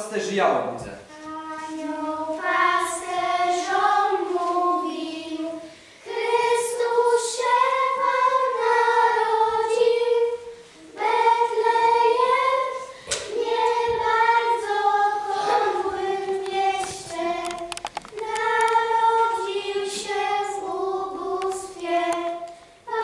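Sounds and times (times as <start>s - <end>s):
children's choir singing: 1.1s - 23.0s.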